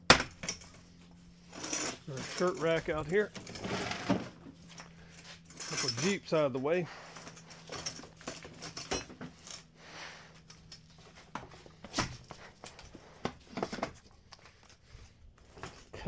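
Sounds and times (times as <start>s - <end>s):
folding chair clicks and clatter: 0.0s - 16.0s.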